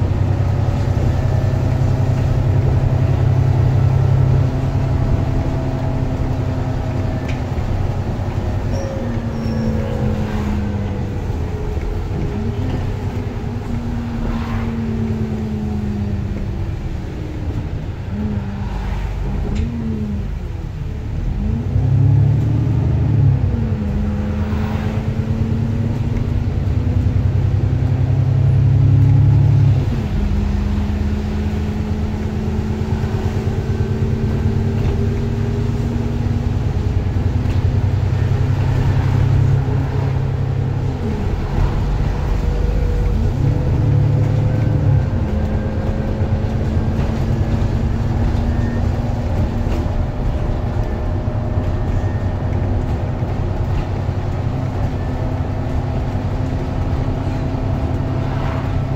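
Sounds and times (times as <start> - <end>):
bus engine drone with whine: 0.0 - 58.9.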